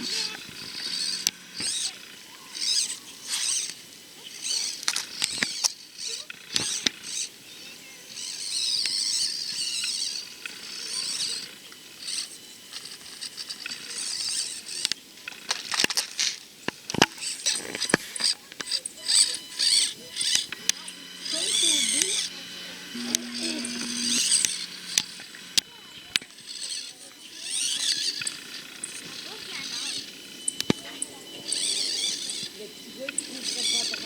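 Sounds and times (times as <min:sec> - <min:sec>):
small motor whirring: 0:00.0 - 0:34.0.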